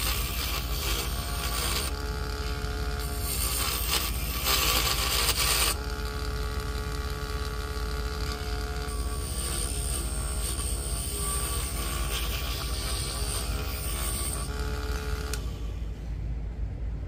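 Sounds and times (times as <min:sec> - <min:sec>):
chisel scraping spinning wood: 0:00.0 - 0:15.4
lathe motor humming and whining: 0:00.0 - 0:16.0.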